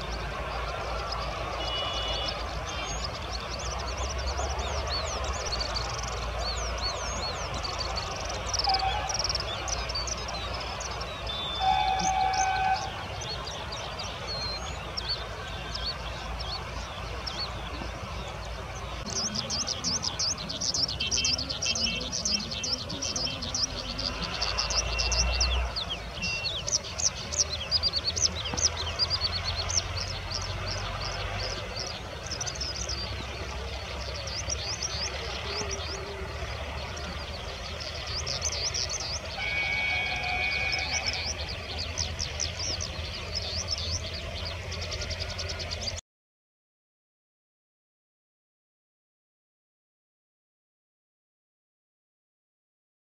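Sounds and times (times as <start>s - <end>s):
skylark chirping: 0.0s - 46.0s.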